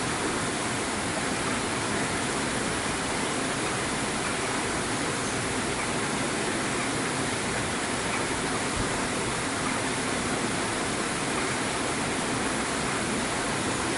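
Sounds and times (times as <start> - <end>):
running water rushing: 0.0 - 13.9.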